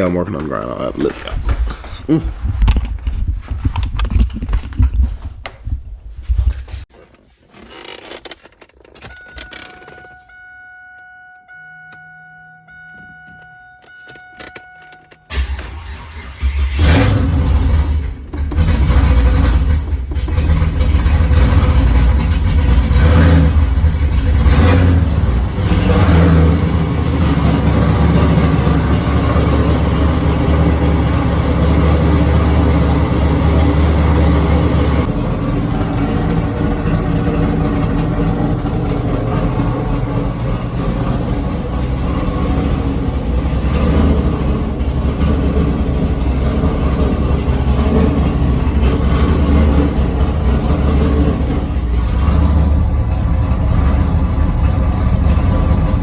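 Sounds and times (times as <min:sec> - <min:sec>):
car engine revving and running: 0:08.1 - 0:56.0.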